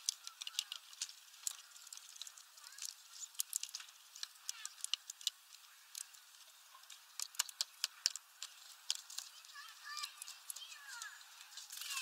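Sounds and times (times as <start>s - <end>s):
beaks cracking seed hulls: 0.0s - 12.0s.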